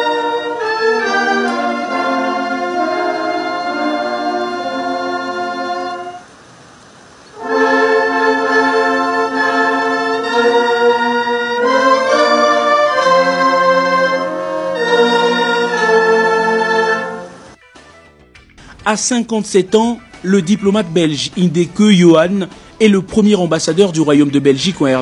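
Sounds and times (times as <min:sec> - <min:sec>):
brass band playing chords: 0:00.0 - 0:06.3, 0:07.4 - 0:17.6, 0:18.6 - 0:25.0.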